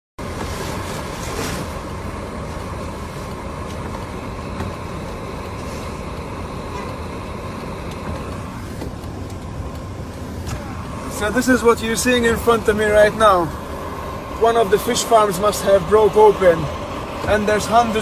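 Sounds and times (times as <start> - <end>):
car engine low rumble: 0.2 - 18.0.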